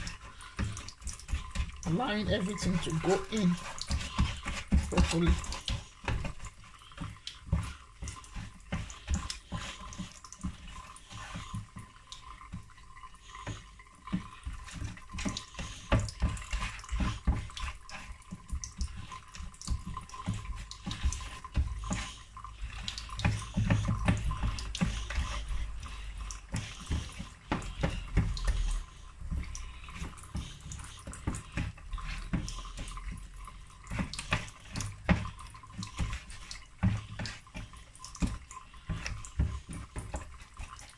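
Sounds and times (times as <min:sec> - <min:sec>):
wet squelching of fish: 0:00.0 - 0:40.9.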